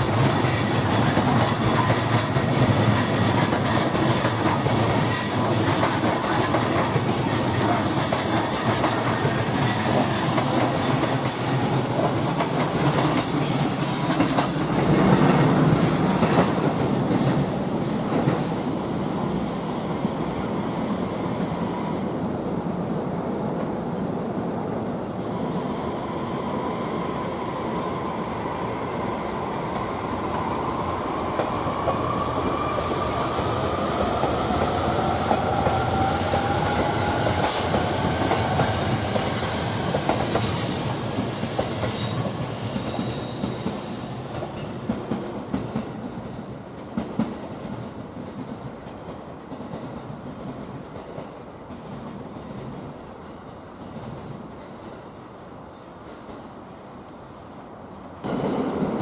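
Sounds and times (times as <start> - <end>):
rail noise: 0.0 - 59.0.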